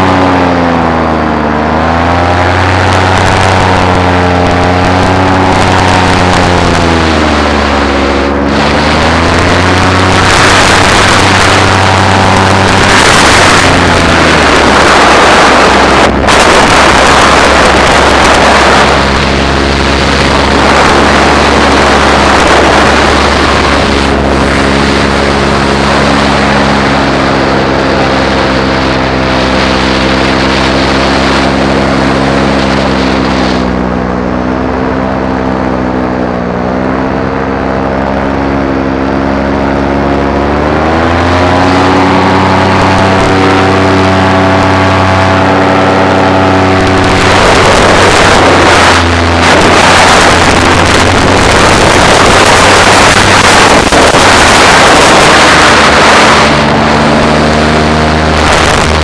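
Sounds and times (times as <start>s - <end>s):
paramotor engine and propeller: 0.0s - 59.0s
wind rushing over microphone: 0.0s - 59.0s.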